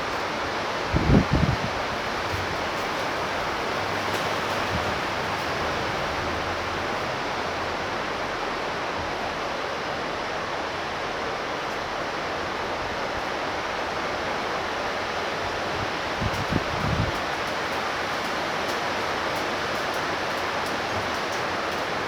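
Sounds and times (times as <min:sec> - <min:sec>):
torrential rain hissing: 0:00.0 - 0:22.0.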